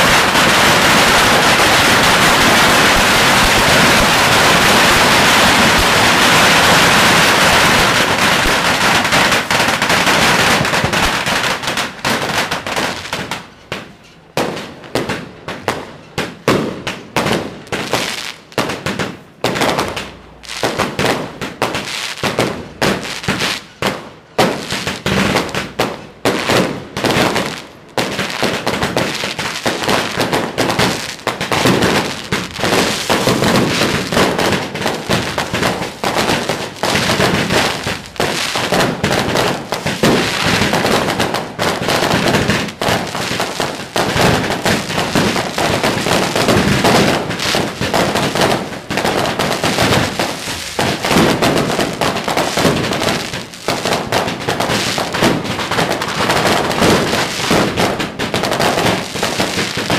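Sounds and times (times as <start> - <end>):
fireworks barrage crackling and banging: 0.0 - 59.9.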